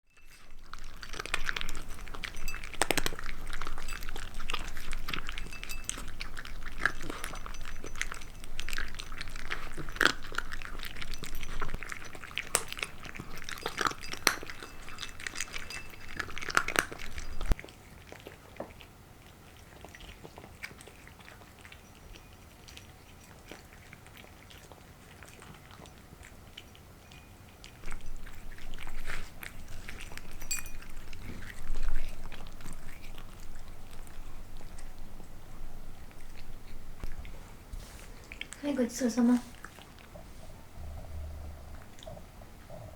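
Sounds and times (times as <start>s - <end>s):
cats crunching food: 0.2s - 42.9s.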